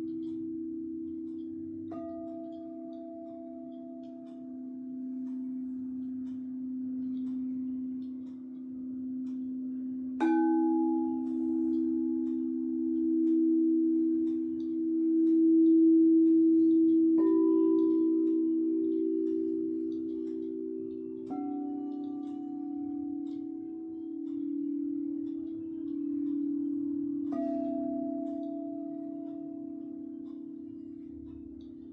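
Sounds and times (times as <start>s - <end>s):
crystal singing bowls ringing: 0.0s - 31.9s
singing bowl being struck: 0.0s - 31.9s.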